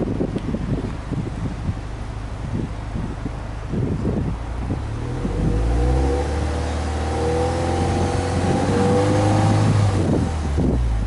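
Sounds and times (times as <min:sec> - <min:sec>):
car exhaust at raised revs: 0:00.0 - 0:11.0.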